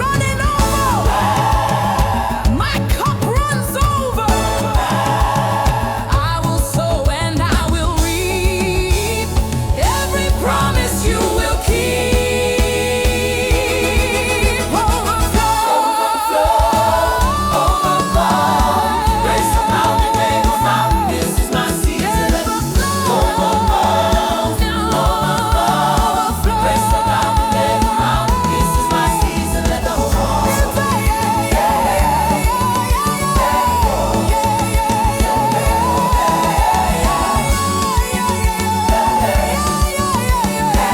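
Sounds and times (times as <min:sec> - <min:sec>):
gospel music: 0:00.0 - 0:40.9.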